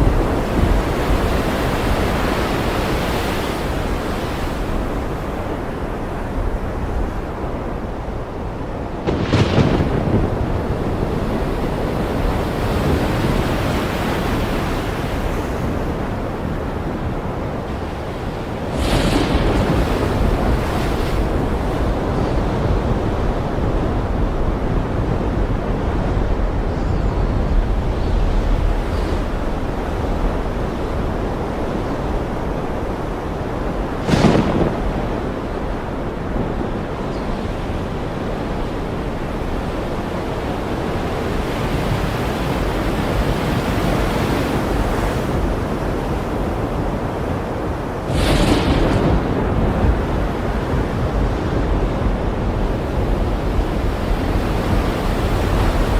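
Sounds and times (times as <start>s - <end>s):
ocean surf washing: 0.0s - 55.9s.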